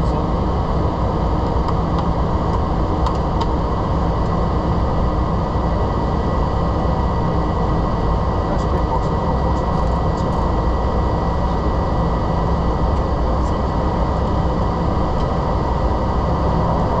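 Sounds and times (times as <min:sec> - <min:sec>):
jet engine and airflow noise: 0:00.0 - 0:17.0
thin steady whine: 0:00.0 - 0:17.0.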